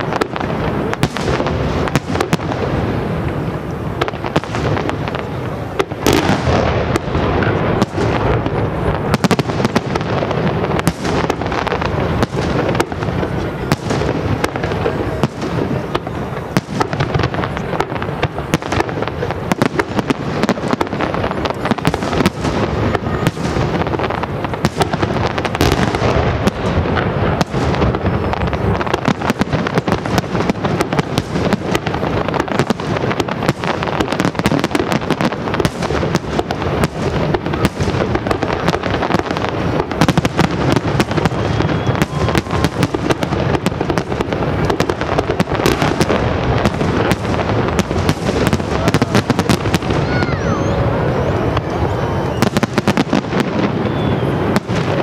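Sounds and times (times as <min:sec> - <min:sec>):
firework bursts and crackle: 0:00.0 - 0:55.0.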